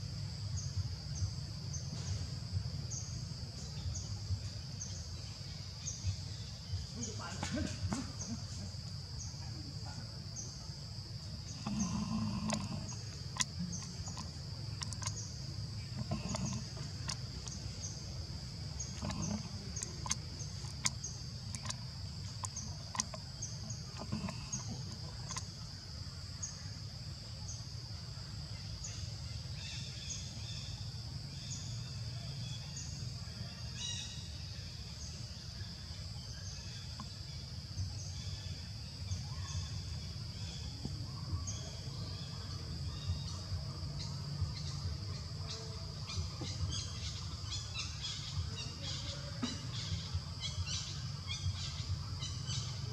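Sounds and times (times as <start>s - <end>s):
insects buzzing and chirping: 0.0s - 52.9s.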